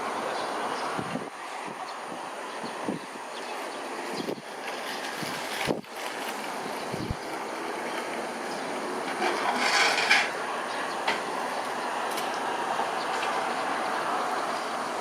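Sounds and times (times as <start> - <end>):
wind gusting on microphone: 0.0 - 15.0.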